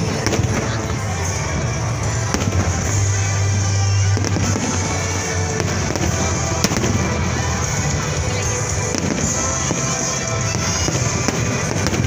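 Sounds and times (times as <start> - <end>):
fireworks bursting: 0.0 - 12.0
music: 0.0 - 12.0.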